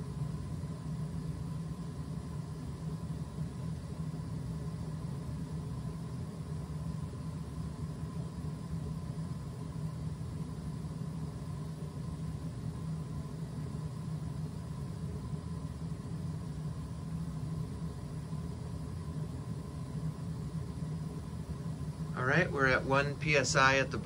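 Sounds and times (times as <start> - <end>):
boiler burner humming: 0.0 - 24.0.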